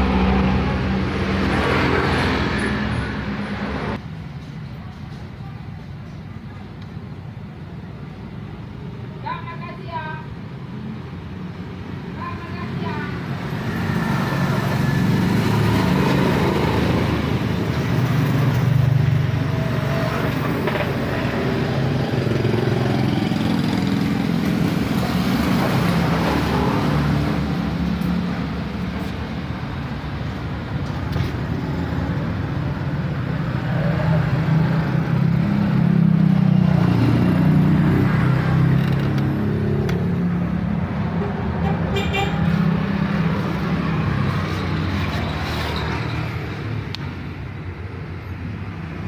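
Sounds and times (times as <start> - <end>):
vehicle engines running: 0.0 - 49.0.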